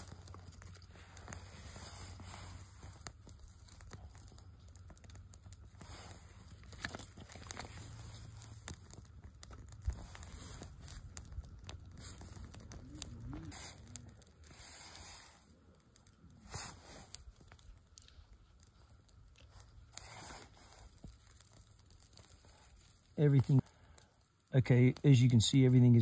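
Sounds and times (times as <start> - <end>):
sticks rustling: 0.0 - 23.6
fire crackling and popping: 0.0 - 26.0.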